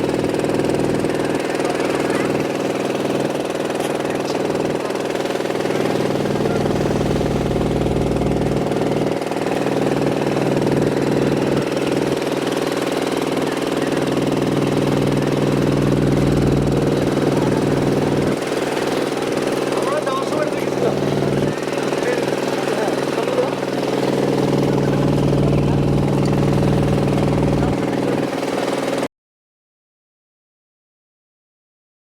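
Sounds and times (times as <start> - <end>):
boat engine running steadily: 0.0 - 29.1.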